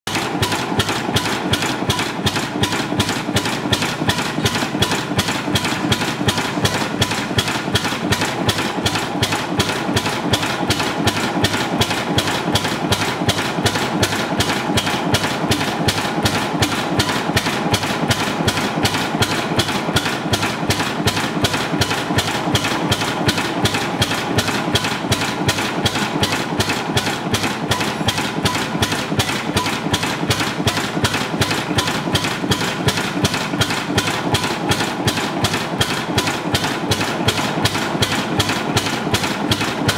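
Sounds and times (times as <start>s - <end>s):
stationary engine running: 0.1s - 39.9s.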